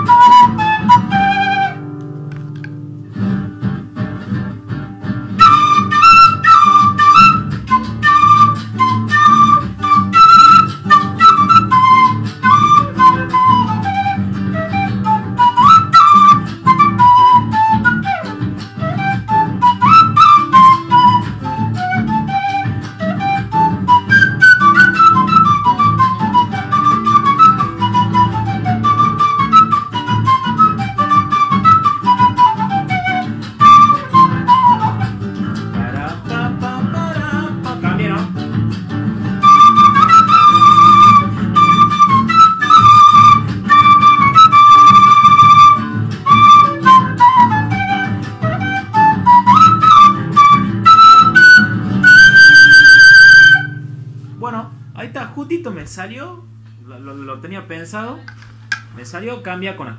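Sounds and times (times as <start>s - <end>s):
flute melody: 0.0s - 2.2s, 5.3s - 36.6s, 39.1s - 54.0s
strummed guitar: 0.0s - 57.0s.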